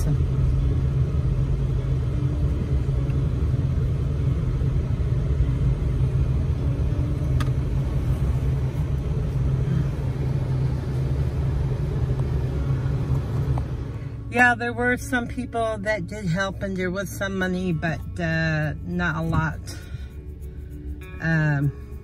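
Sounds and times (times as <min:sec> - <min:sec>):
truck engine rumble: 0:00.0 - 0:22.0.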